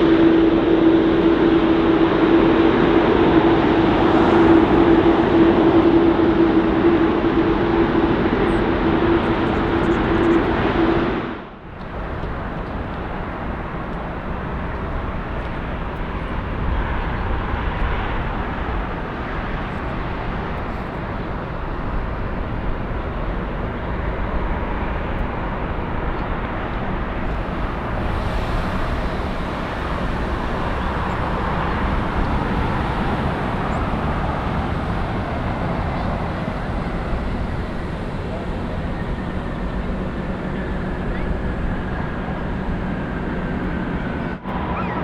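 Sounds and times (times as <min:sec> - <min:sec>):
jet engine noise: 0:00.0 - 0:45.0.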